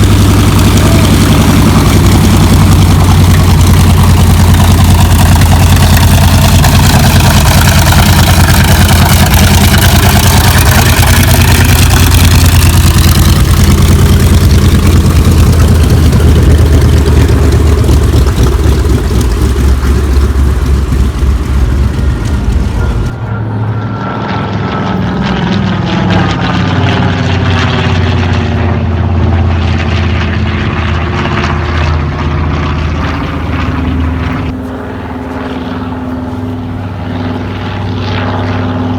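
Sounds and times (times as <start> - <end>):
propeller plane droning past: 0.0 - 38.9.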